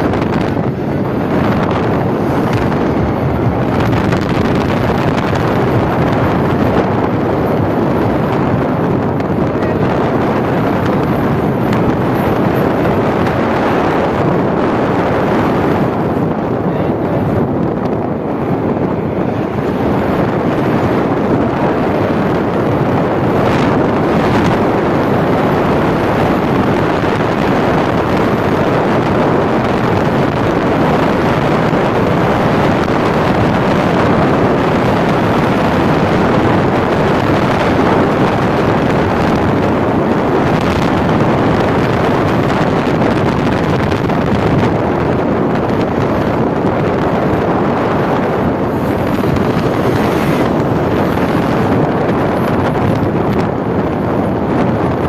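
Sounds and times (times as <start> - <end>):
car driving on highway: 0.0 - 55.0
road noise: 0.0 - 55.0
wind noise: 0.0 - 55.0.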